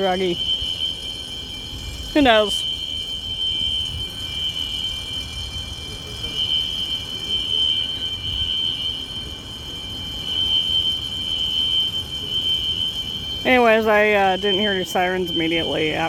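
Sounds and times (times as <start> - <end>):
fire alarm high-pitched tone: 0.0 - 16.0.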